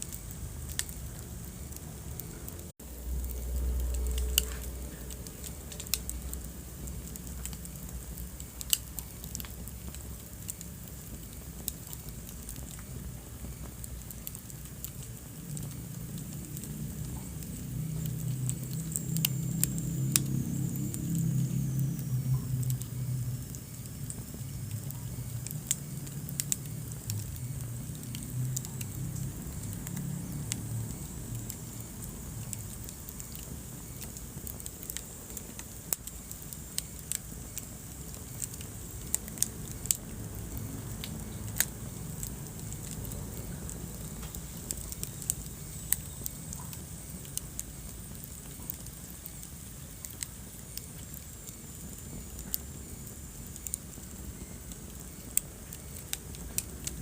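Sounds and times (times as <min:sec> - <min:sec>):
burning logs popping: 0:00.0 - 0:57.0
low rumble of flames: 0:00.0 - 0:57.0.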